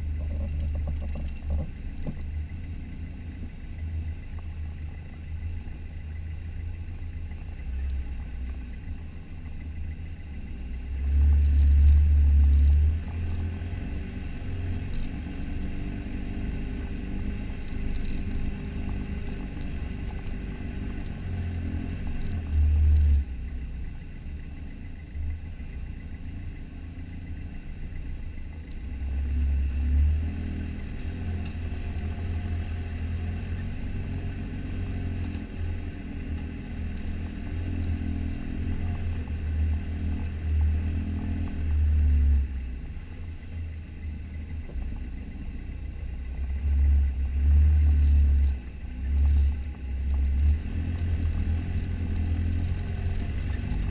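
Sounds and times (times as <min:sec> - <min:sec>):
vehicle engine low rumble: 0:00.0 - 0:53.9.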